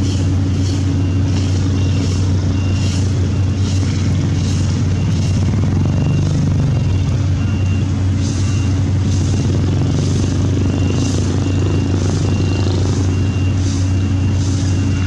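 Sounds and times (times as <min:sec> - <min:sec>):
back-up alarm beeping: 0:00.0 - 0:15.0
heavy diesel engines running: 0:00.0 - 0:15.0.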